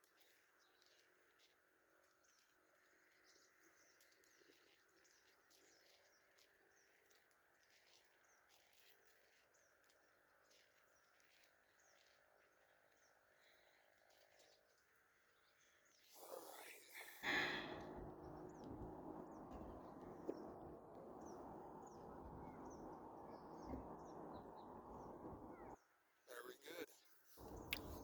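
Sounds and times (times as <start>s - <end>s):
faint bird chirps: 2.1s - 28.0s.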